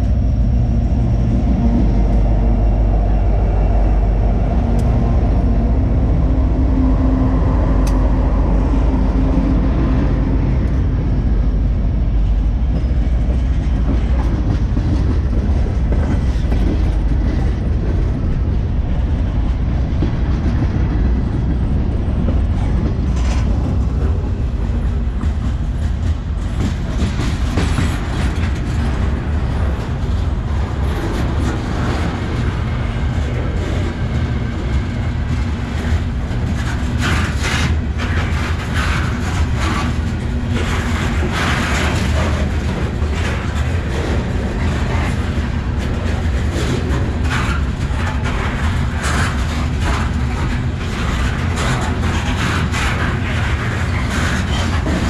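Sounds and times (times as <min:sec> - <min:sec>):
freight train rumbling: 0:00.0 - 0:55.0
wheels clacking over rail joints: 0:09.2 - 0:55.0.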